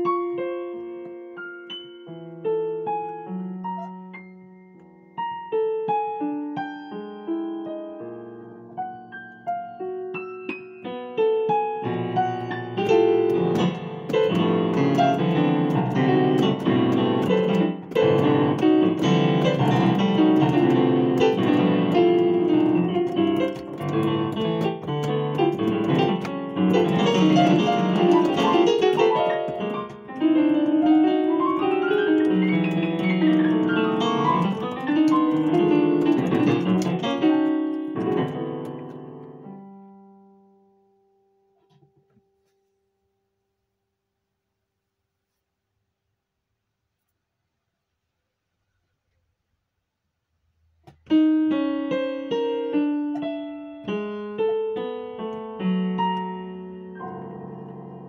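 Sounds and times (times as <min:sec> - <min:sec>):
digital piano chords and runs: 0:00.0 - 0:39.8, 0:51.0 - 0:58.0.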